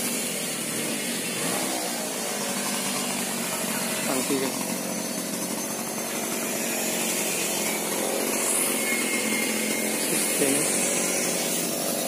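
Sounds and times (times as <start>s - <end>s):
sawmill engine and saw running: 0.0s - 12.0s.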